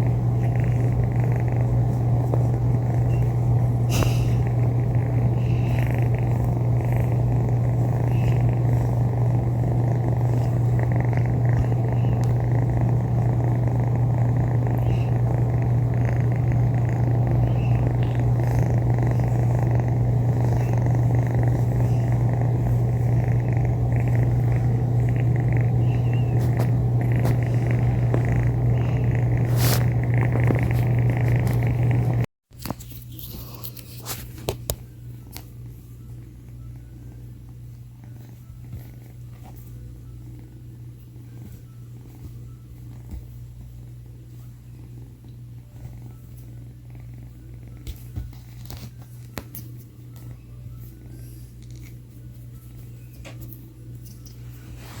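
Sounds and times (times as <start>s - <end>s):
kitten purring: 0.0s - 32.3s, 32.9s - 55.0s.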